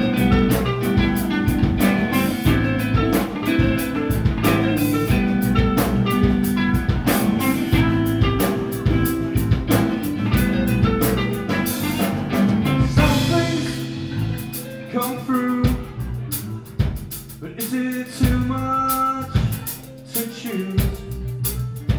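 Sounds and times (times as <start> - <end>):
bass guitar: 0.0 - 21.9
distorted electric guitar: 0.0 - 21.9
drum kit: 0.0 - 21.9.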